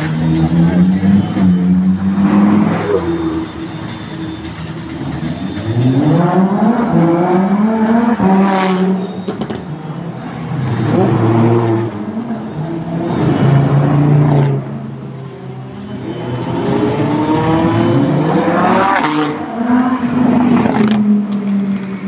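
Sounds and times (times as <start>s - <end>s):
sports car engines revving past: 0.0s - 3.5s, 5.0s - 22.0s.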